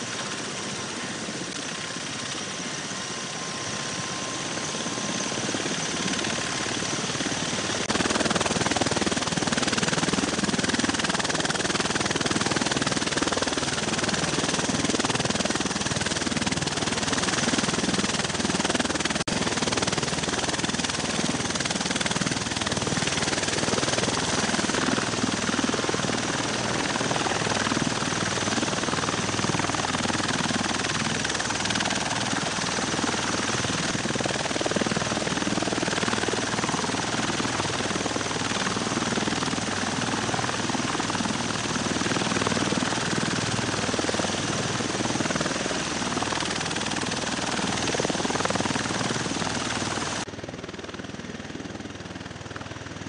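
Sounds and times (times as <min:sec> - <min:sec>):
aircraft rotor and turbine noise: 0:00.0 - 0:53.0.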